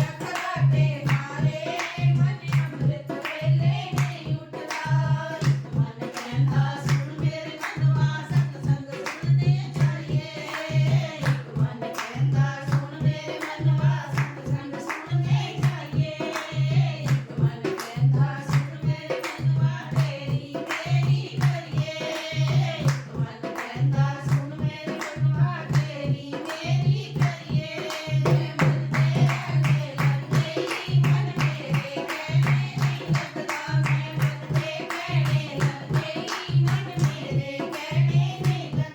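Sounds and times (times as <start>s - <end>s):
hand clapping: 0.0s - 9.2s, 13.4s - 26.6s, 27.2s - 38.8s
group singing devotional song: 0.0s - 38.9s.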